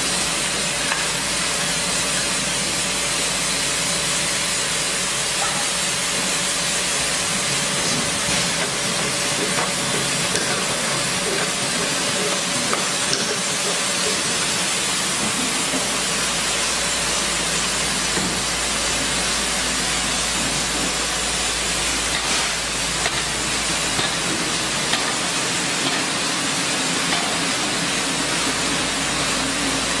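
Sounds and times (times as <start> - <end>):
machinery hiss: 0.0 - 30.0.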